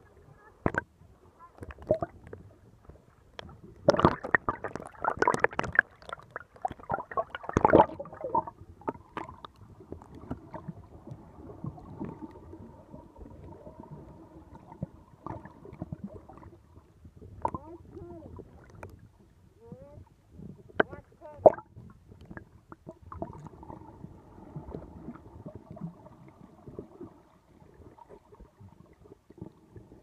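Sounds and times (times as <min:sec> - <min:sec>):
muffled underwater sound: 0:00.0 - 0:30.0
water splashing and sloshing: 0:00.0 - 0:30.0.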